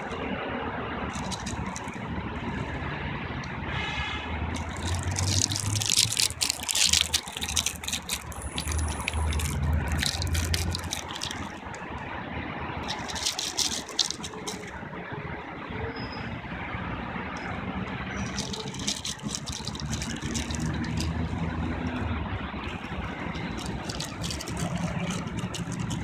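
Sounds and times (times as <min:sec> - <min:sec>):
crackling rustle: 0:00.0 - 0:00.4, 0:01.0 - 0:03.8, 0:04.5 - 0:15.2, 0:16.7 - 0:26.0
distant city traffic rumble: 0:00.0 - 0:26.0.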